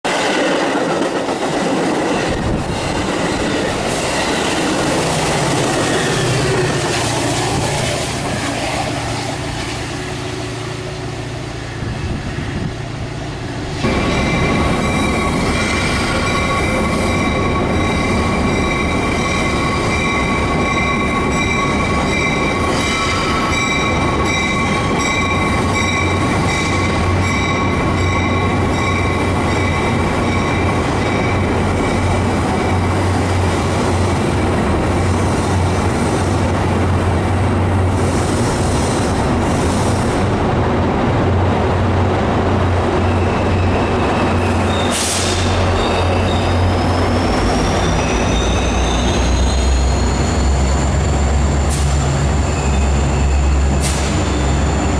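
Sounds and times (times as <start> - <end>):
train rumbling: 0.0 - 54.9
train wheels squealing on rails: 0.1 - 36.5, 37.9 - 40.3, 42.8 - 54.9.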